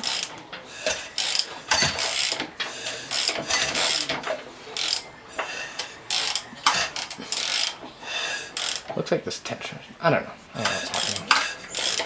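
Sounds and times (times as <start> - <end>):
ratchet wrench clicking: 0.0 - 8.9, 10.6 - 12.0.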